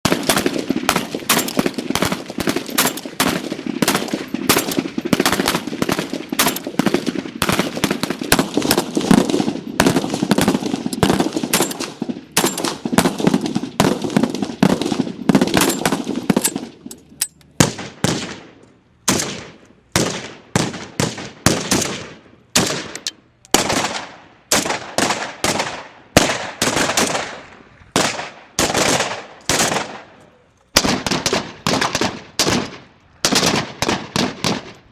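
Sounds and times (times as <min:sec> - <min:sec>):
rifle firing bursts and shots: 0:00.0 - 0:30.1, 0:30.7 - 0:34.9.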